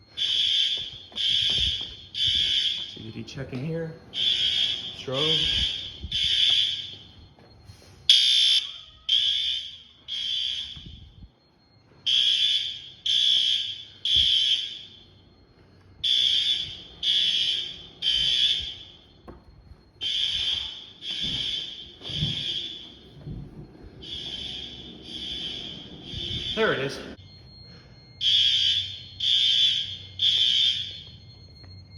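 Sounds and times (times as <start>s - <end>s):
fire alarm horn buzzing: 0.0s - 31.9s.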